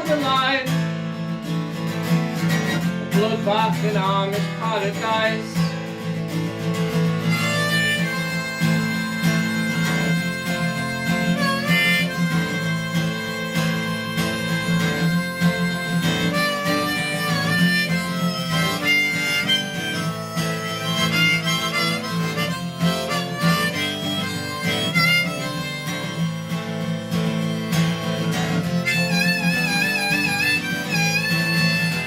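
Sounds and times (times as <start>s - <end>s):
harmonica melody: 0.0s - 32.0s
strummed guitar: 0.0s - 32.0s.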